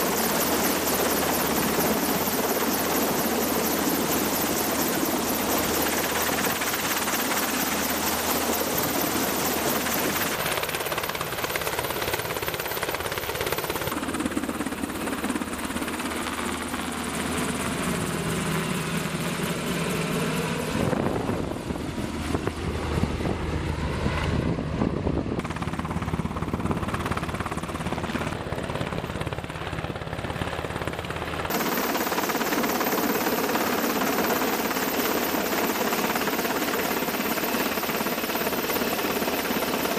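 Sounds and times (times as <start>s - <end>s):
helicopter hovering and flying: 0.0s - 39.9s.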